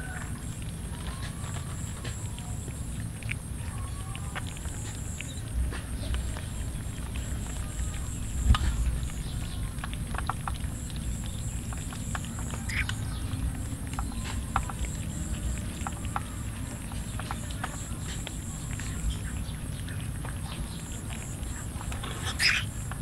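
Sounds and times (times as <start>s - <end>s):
cats chewing and lapping: 0.0s - 23.0s
steady low rumble: 0.0s - 23.0s.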